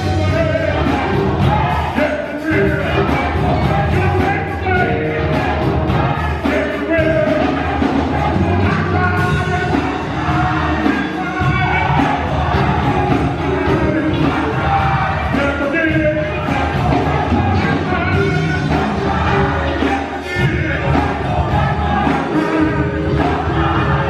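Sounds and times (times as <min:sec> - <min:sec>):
gospel choir singing: 0:00.0 - 0:24.0
instrumental accompaniment: 0:00.0 - 0:24.0.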